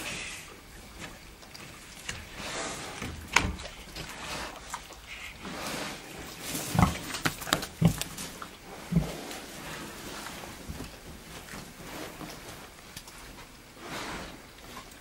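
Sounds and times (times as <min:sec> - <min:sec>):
wild boar rooting in soil: 0:00.0 - 0:15.0.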